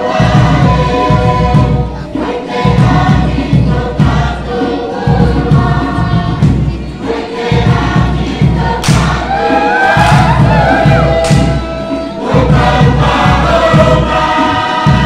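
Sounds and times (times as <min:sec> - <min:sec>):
group singing in harmony: 0:00.0 - 0:15.0
rhythmic low beat: 0:00.0 - 0:15.0.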